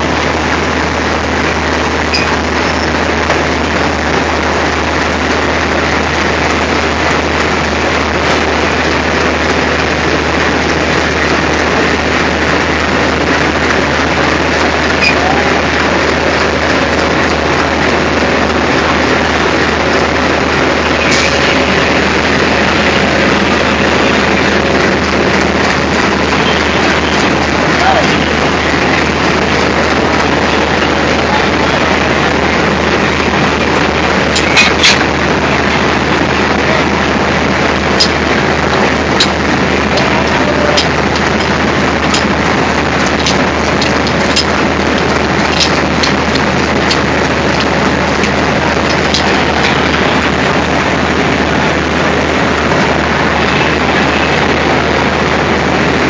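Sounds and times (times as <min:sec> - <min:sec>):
diesel locomotive engine rumbling: 0:00.0 - 0:56.0.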